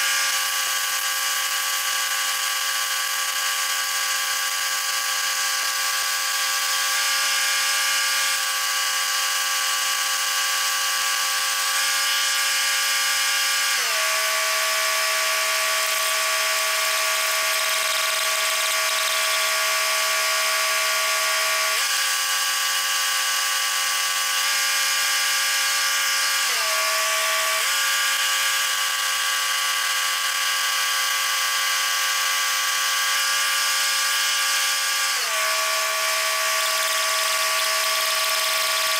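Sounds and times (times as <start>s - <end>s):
welding machine engine running: 0.0s - 38.9s.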